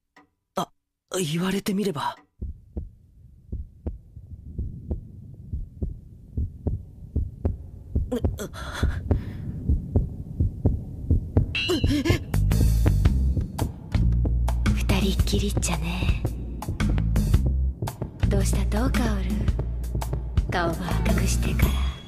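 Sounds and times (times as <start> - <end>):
cartoon heartbeat thumps: 2.2 - 22.0.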